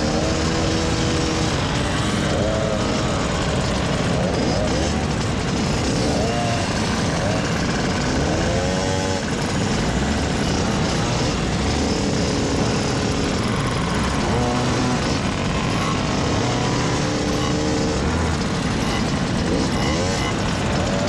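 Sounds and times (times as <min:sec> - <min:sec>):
moped engines revving: 0:00.0 - 0:21.0.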